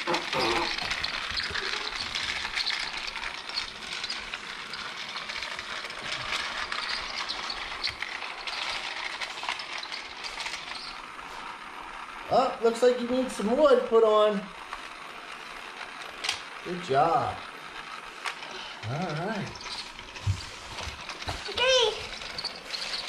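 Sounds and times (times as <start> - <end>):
rapid clicking and rattling: 0.0 - 23.0
toy train motor whirring: 0.0 - 23.0.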